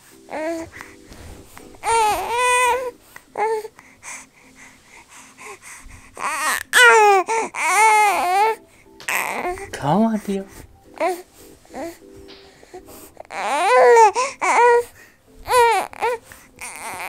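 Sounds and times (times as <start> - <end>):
baby cooing and babbling: 0.3 - 1.0, 1.6 - 4.2, 5.4 - 9.8, 10.9 - 17.0.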